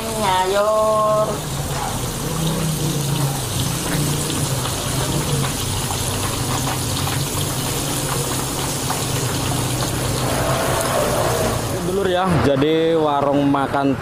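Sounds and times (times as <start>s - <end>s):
deep-frying sizzle and pops: 0.0s - 12.2s.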